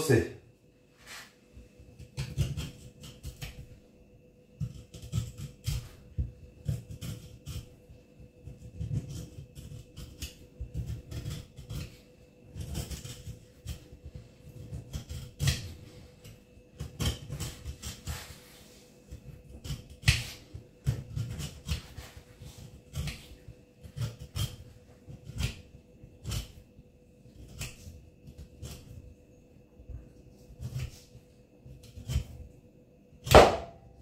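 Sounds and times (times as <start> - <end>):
faint steady hum: 0.0 - 34.0
knife scraping along bones: 2.0 - 3.7, 4.6 - 29.1, 30.3 - 32.5.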